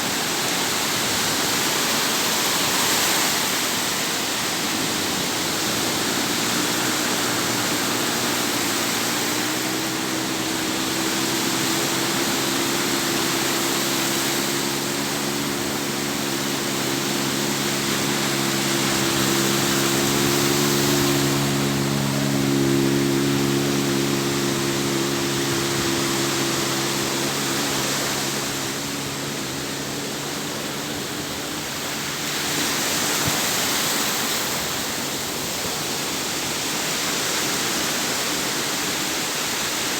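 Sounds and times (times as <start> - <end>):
low steady drone: 0.0 - 33.1
sea waves washing: 0.0 - 39.9.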